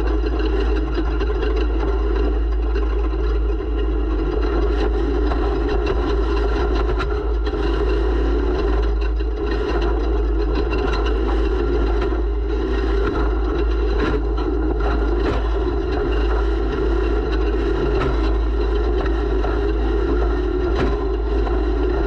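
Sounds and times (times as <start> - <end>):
race vehicle engine running hard: 0.0 - 22.0.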